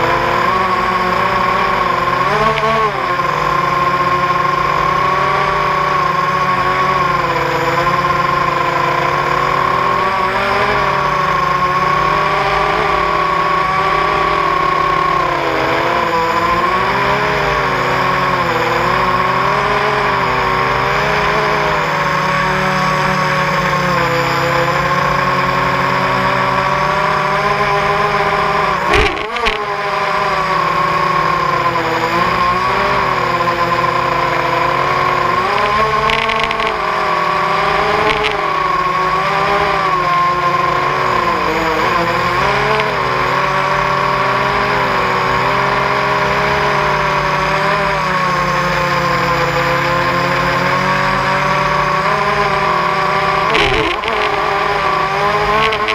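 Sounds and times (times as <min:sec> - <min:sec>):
quadcopter propellers whining: 0:00.0 - 0:55.9.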